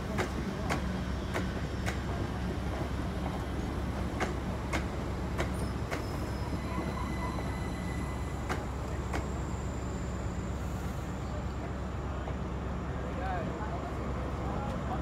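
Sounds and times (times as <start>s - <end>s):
electric train rumbling past: 0.0s - 13.2s.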